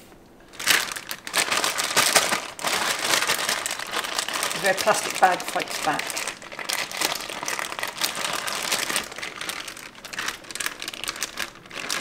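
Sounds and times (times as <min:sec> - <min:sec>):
plastic bag crinkling: 0:00.4 - 0:12.0
spatula scraping bag: 0:00.5 - 0:12.0.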